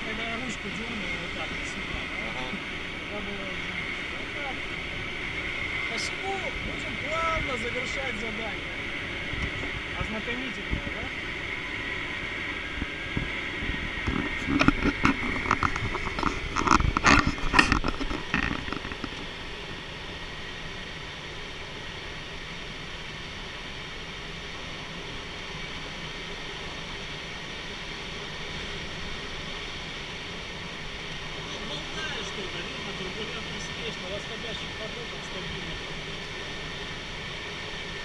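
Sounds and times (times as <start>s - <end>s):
airflow rushing in cockpit: 0.0s - 38.0s.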